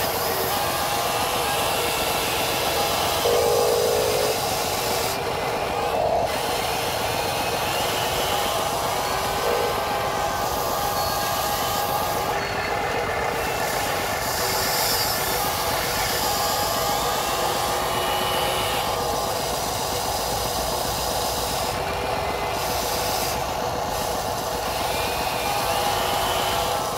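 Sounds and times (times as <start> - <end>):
toy excavator motors whirring: 0.0 - 26.9.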